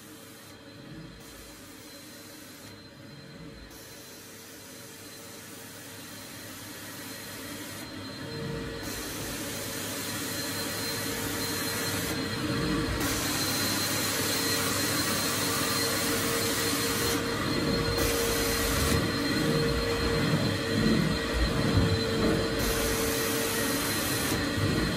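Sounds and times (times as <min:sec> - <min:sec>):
vacuum motors running: 0:00.0 - 0:24.9.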